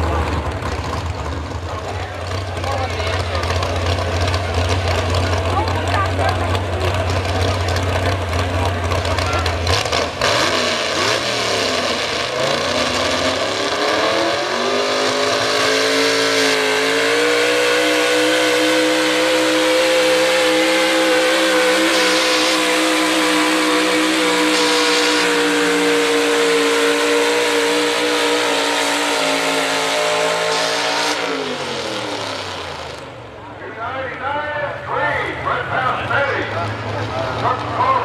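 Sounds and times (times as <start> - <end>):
truck engine revving under load: 0.0 - 33.6.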